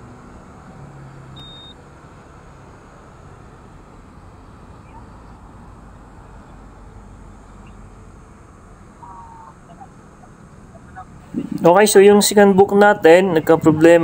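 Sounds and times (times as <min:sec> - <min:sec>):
faint road traffic rumble: 0:00.0 - 0:14.0.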